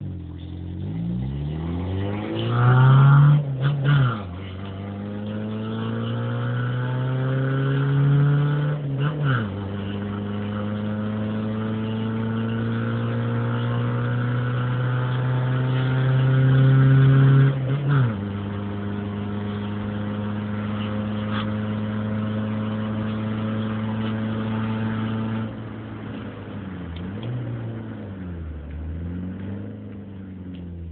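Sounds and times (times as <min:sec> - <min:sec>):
car engine with open exhaust accelerating: 0:00.0 - 0:30.9.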